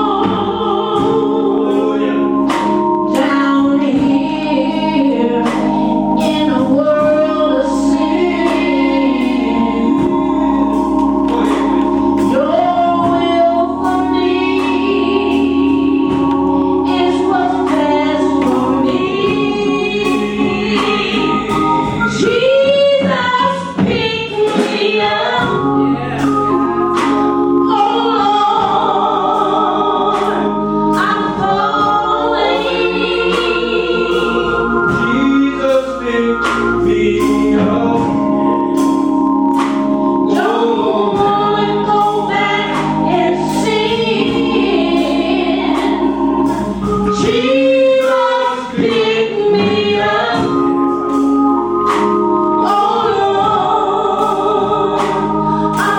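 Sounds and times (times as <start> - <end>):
gospel choir singing: 0.0 - 55.9
organ chords: 0.0 - 55.9.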